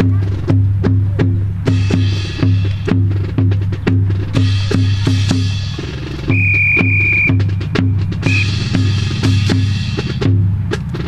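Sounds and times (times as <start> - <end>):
marching snare and bass drum: 0.0 - 11.0.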